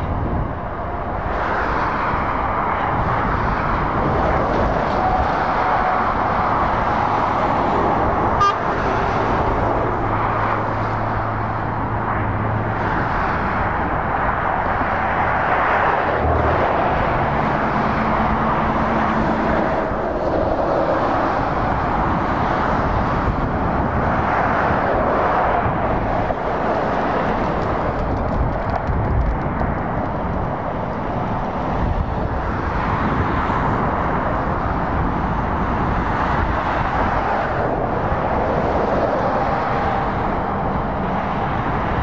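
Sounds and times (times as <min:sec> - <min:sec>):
diesel engine drone: 0:00.0 - 0:42.0
tyres rushing on road: 0:00.0 - 0:42.0.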